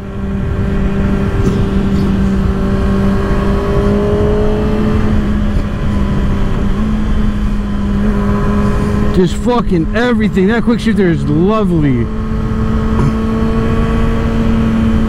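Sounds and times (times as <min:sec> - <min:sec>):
motorcycle engine running: 0:00.0 - 0:15.0
wind rush and road noise: 0:00.0 - 0:15.0.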